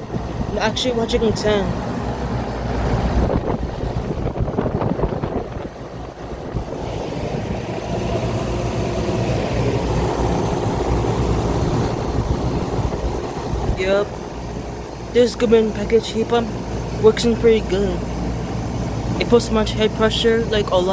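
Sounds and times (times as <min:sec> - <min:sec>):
compressor hum: 0:00.0 - 0:20.9
condenser fan rushing: 0:00.0 - 0:20.9.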